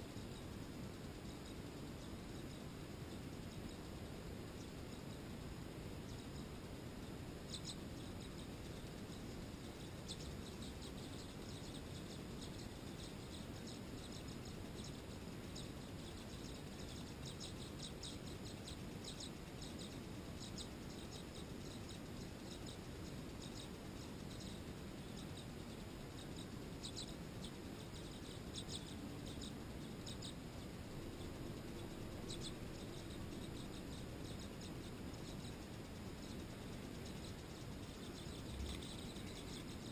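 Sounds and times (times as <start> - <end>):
low background hiss: 0.0 - 39.9
swallows chirping: 1.2 - 39.9.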